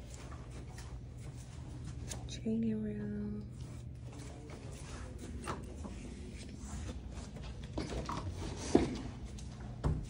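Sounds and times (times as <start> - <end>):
low hum of room tone: 0.0 - 10.0.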